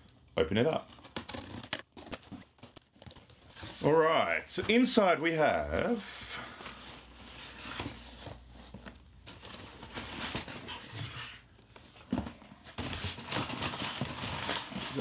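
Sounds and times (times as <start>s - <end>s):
packaging and cardboard rustling: 0.6s - 15.0s.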